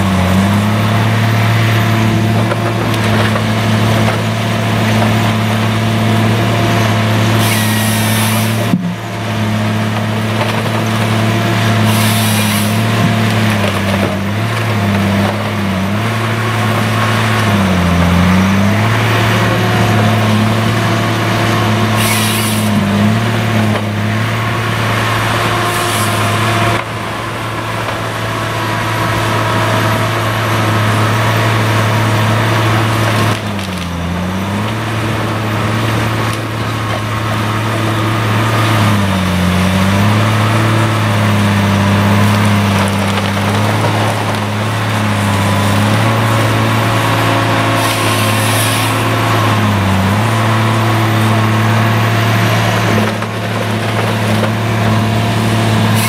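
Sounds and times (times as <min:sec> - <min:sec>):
diesel engine under load: 0:00.0 - 0:56.0
wood cracking and splintering: 0:00.0 - 0:56.0.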